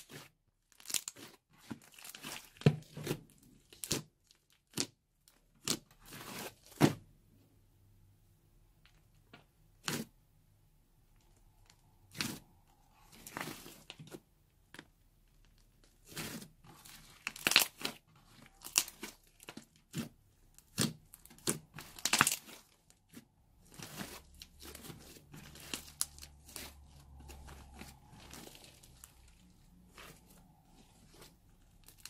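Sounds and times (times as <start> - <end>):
slime crackling and tearing: 0.0 - 7.0, 11.2 - 14.2, 15.5 - 32.0.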